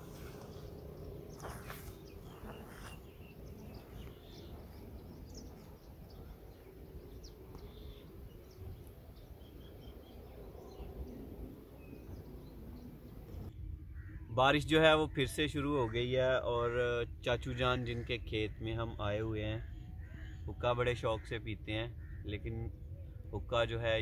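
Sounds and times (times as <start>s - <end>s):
low wind rumble: 0.0s - 20.5s.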